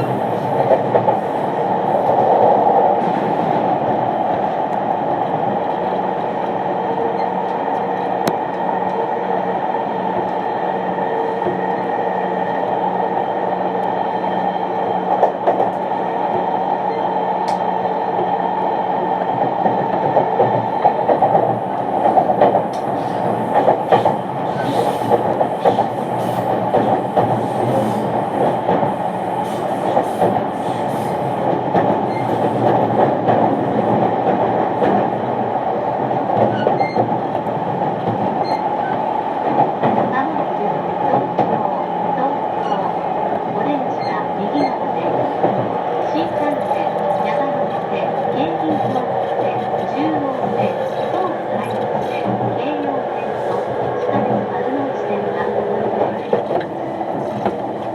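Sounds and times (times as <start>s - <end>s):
rail joint clicks: 0.0s - 1.3s, 2.0s - 9.0s, 10.1s - 10.5s, 15.0s - 18.4s, 19.3s - 35.4s, 36.0s - 41.6s, 42.6s - 57.9s.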